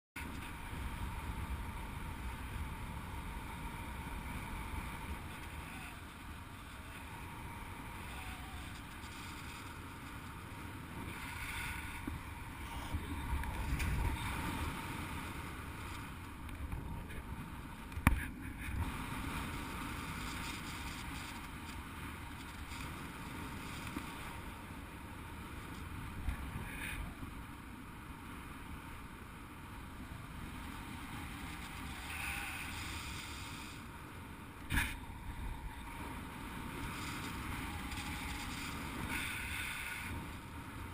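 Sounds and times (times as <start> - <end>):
wind rushing over camera: 0.2 - 40.9.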